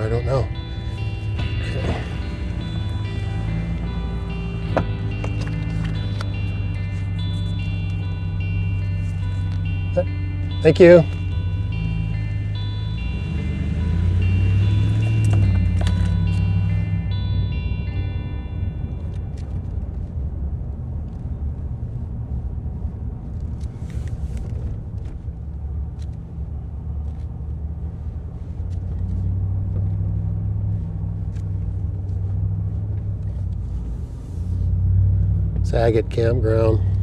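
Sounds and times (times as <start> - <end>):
car cabin rumble: 0.0 - 37.0.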